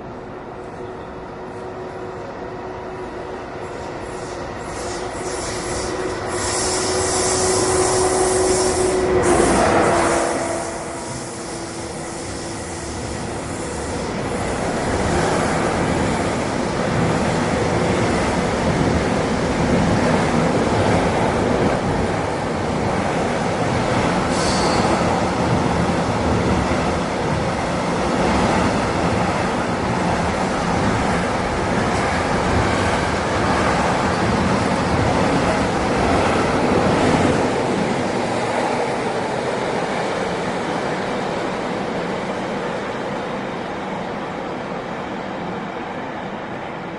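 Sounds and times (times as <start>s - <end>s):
train wheels rumbling on rails: 0.6s - 46.9s.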